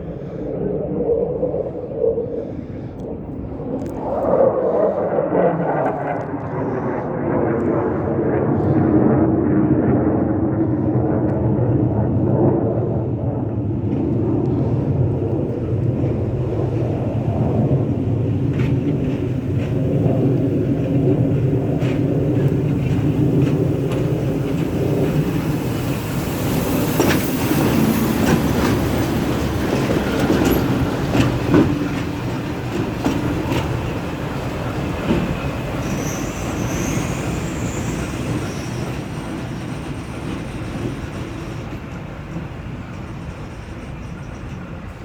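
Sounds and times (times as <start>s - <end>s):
diesel locomotive engine drone: 0.0s - 45.0s.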